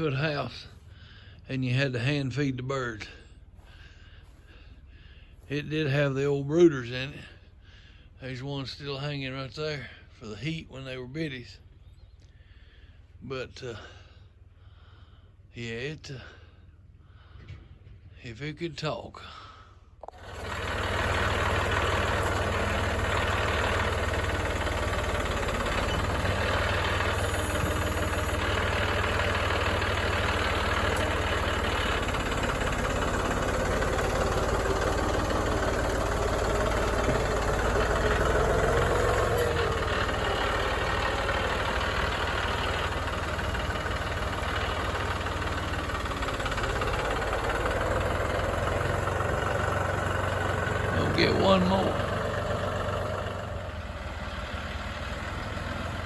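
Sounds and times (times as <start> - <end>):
vehicle engine idling: 0.0 - 15.5, 19.2 - 56.0.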